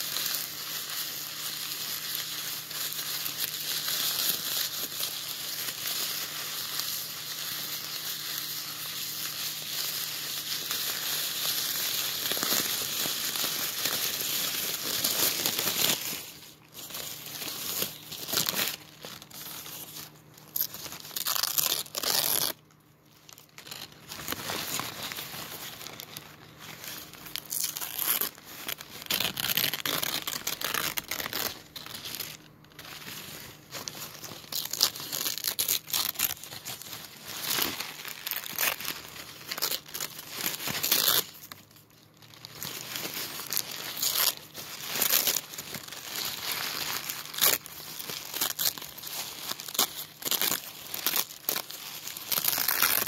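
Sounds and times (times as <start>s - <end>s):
wrapper paper crinkling and ripping: 0.0s - 53.0s.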